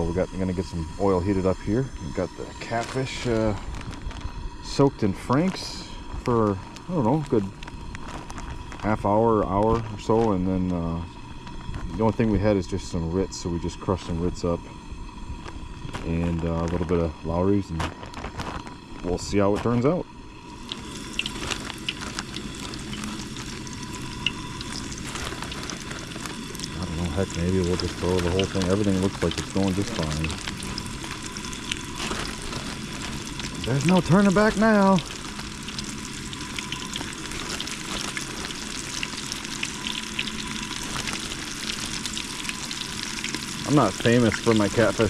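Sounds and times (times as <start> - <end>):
food frying in hot oil: 0.0 - 45.0.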